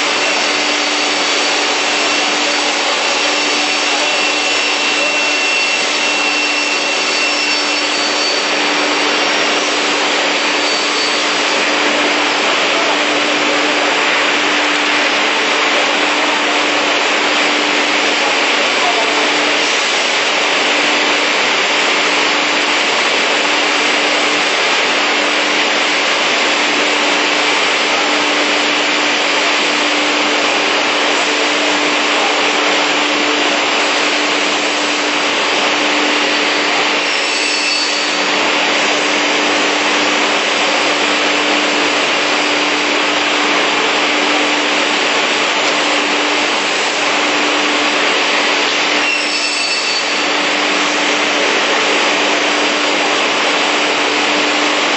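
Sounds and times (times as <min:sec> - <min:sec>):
saw machine running: 0:00.0 - 0:54.9.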